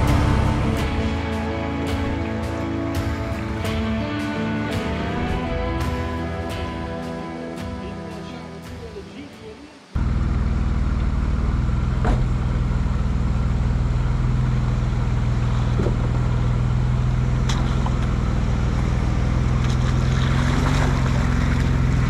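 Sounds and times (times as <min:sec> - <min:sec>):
car engine droning: 0:00.0 - 0:07.6, 0:10.0 - 0:22.0.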